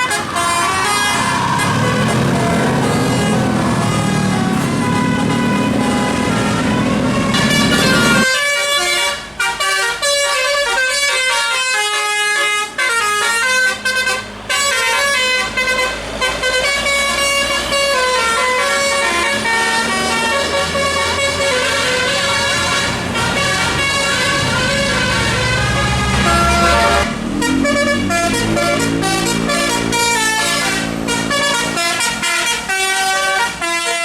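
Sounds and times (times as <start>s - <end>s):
low vehicle rumble: 0.0s - 8.3s, 12.8s - 33.8s
musical bus air horn melody: 0.0s - 34.0s.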